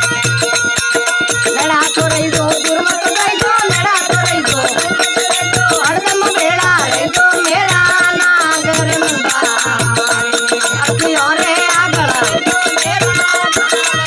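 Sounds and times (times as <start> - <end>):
hand drum beating: 0.0 - 14.0
small cymbals jingling: 0.0 - 14.0.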